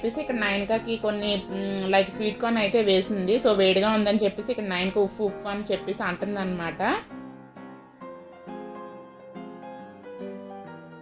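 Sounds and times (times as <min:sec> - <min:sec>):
light keyboard tune: 0:00.0 - 0:11.0.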